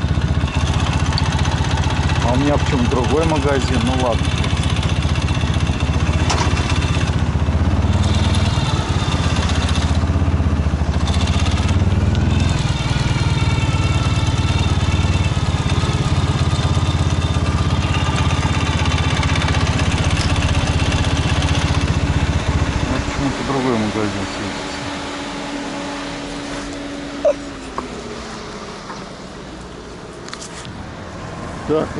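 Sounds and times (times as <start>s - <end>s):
motorcycle engine running: 0.0s - 30.3s.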